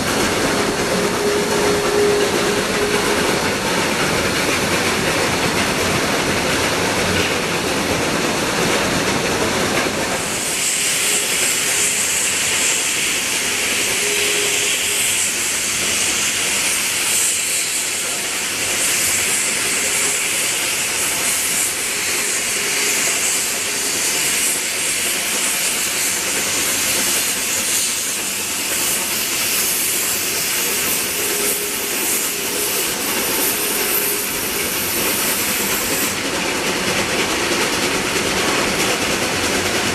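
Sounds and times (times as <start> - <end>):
steam hissing: 0.0 - 39.9
train running rumble: 0.0 - 39.9.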